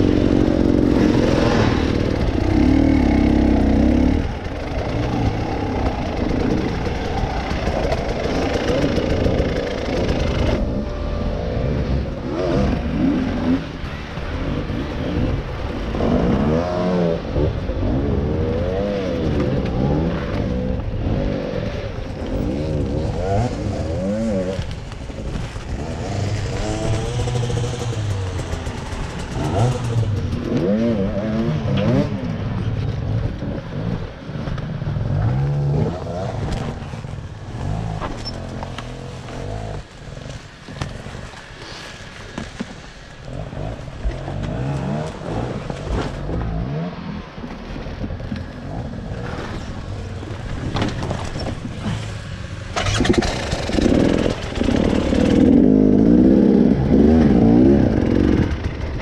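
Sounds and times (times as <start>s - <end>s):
motorcycle engine revving: 0.0s - 40.4s, 48.3s - 59.0s.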